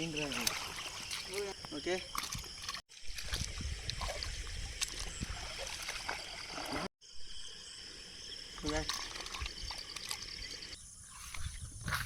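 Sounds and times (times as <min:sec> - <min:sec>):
water sloshing and splashing: 0:00.0 - 0:06.9, 0:08.5 - 0:11.5.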